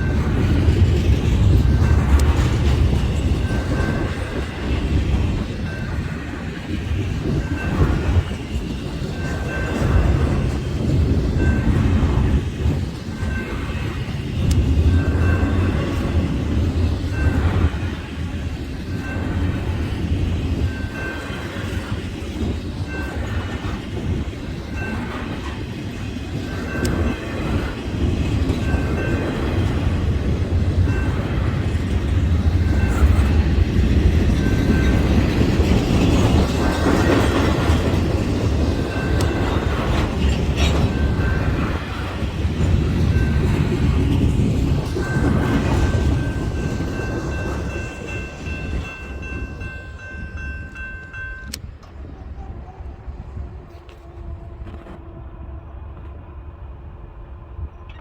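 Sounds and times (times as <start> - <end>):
wheels clacking over rail joints: 0.0 - 52.1
freight train rumbling past: 0.0 - 58.0.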